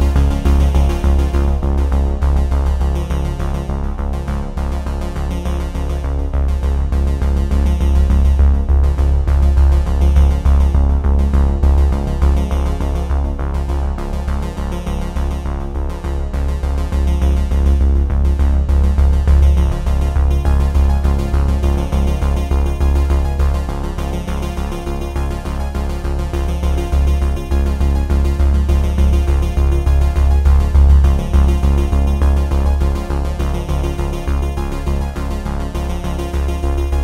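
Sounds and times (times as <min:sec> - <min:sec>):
music with strong bass: 0:00.0 - 0:37.0.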